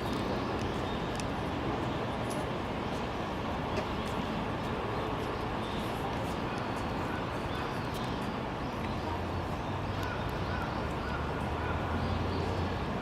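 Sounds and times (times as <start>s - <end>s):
distant traffic noise: 0.0s - 13.0s.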